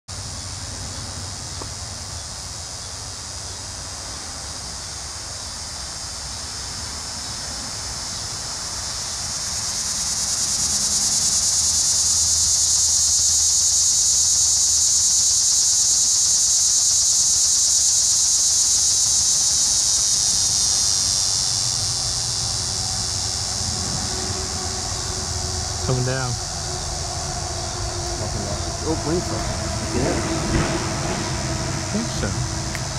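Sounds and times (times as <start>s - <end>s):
cicada buzzing drone: 0.1s - 32.9s
faint insect buzz: 0.1s - 32.9s.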